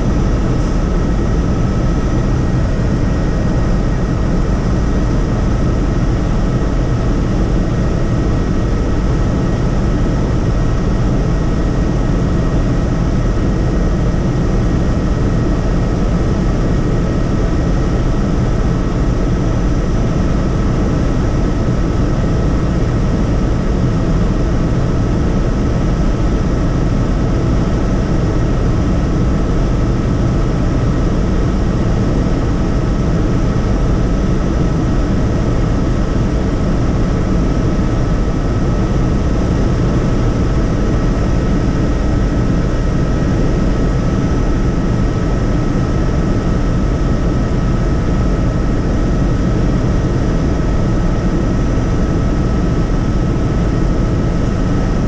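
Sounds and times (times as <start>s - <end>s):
helicopter engine and rotors: 0.0s - 55.0s.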